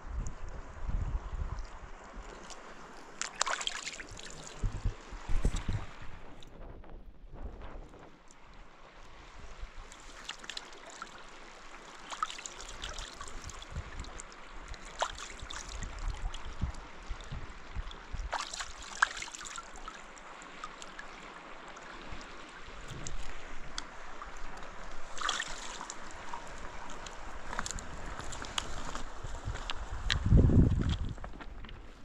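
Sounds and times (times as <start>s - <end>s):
water trickling and gurgling: 1.0s - 6.6s, 8.2s - 31.7s
small splashes: 1.6s - 6.5s, 9.8s - 32.0s.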